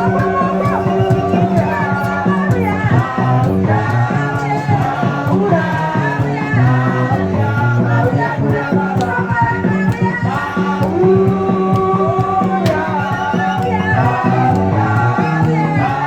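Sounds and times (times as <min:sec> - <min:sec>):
band with bass and drums: 0:00.0 - 0:16.0
group of voices singing gospel: 0:00.0 - 0:16.0.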